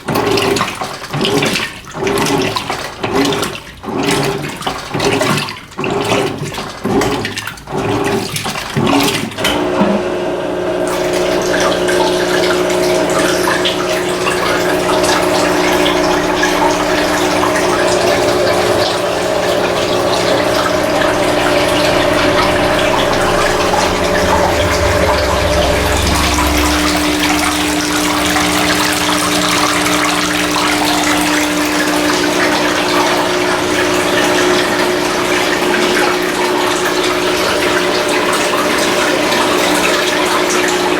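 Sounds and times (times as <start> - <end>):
rushing water: 0.0 - 40.9
washing machine motor hum: 0.0 - 40.9
washing machine water sloshing: 0.0 - 40.9.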